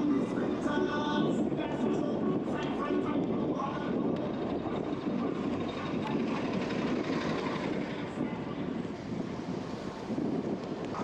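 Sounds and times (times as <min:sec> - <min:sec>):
road and traffic rumble: 0:00.0 - 0:11.0
wind on microphone: 0:00.0 - 0:11.0.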